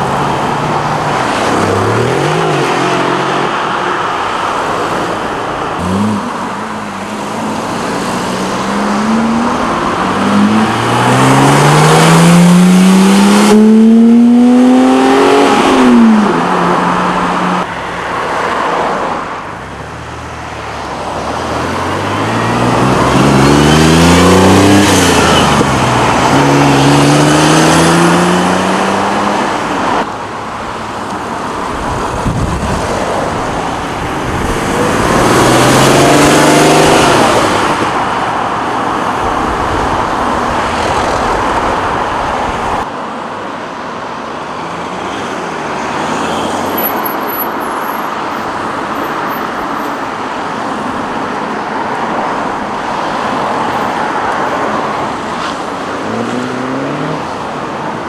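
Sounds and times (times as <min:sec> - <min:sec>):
car engines accelerating hard: 0:00.0 - 0:30.2, 0:31.0 - 0:42.9, 0:48.2 - 0:58.0
engines idling and rolling: 0:00.0 - 0:58.0.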